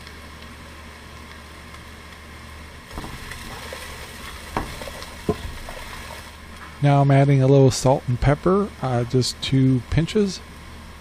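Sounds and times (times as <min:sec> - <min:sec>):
vegetables sauteing in a pot: 0:00.0 - 0:11.0.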